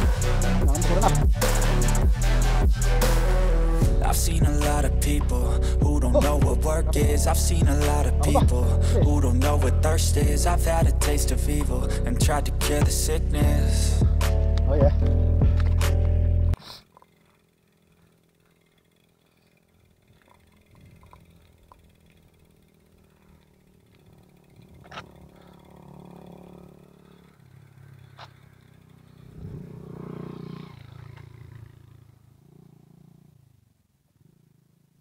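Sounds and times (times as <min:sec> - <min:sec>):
vehicle engine passing: 0:00.0 - 0:33.6.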